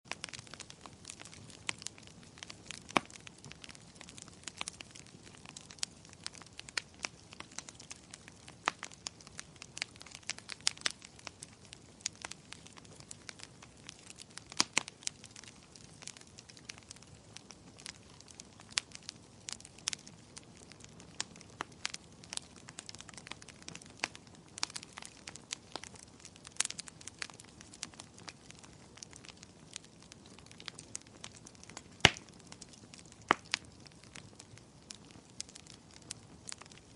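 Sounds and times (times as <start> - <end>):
wood fire crackling: 0.1 - 36.9.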